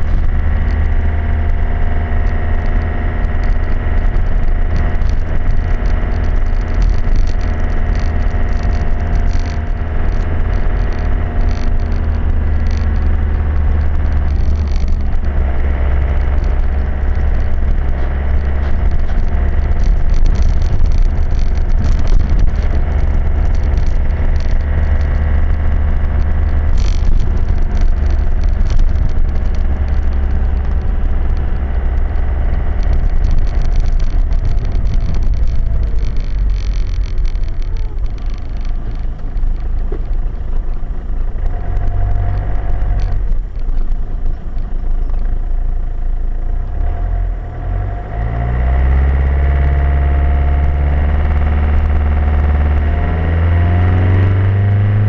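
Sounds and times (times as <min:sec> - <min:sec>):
motorhome engine drone: 0:00.0 - 0:55.0
road noise: 0:00.0 - 0:55.0.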